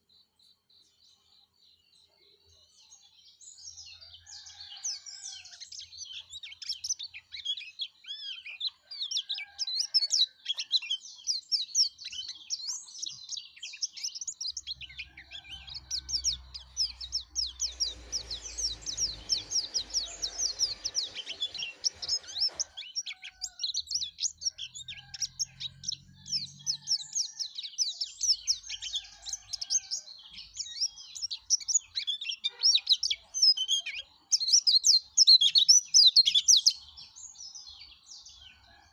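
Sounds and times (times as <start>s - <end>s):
bird singing high twittering: 3.5s - 37.5s.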